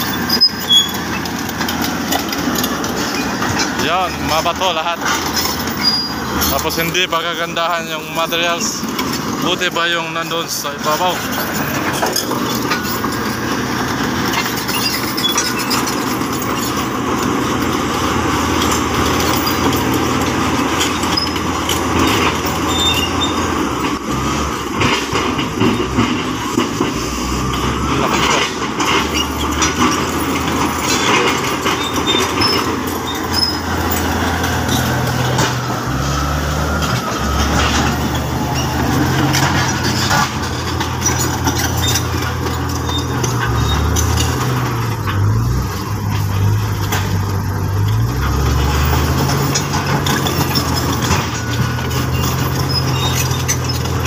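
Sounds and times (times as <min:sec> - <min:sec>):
bulldozer diesel engine under load: 0:00.0 - 0:54.0
steel tracks clanking over rocks: 0:00.0 - 0:54.0.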